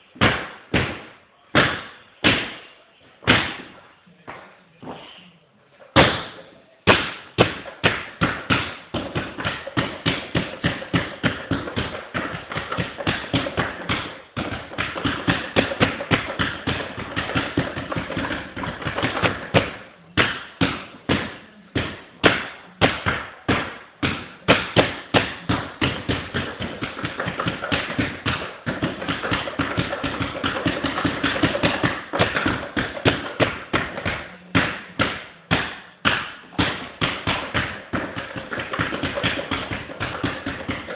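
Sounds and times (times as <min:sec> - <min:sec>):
basketball bouncing on hardwood floor: 0:00.2 - 0:02.6, 0:06.0 - 0:40.9.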